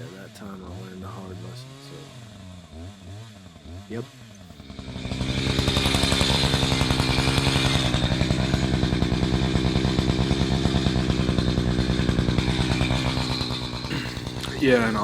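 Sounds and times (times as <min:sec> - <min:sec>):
chainsaw revving: 0:00.0 - 0:15.0.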